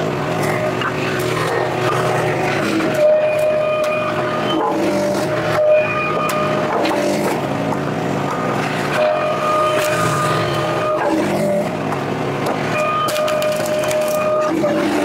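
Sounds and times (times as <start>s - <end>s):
log splitter engine running: 0.0s - 15.0s
log splitter whine: 0.0s - 15.0s.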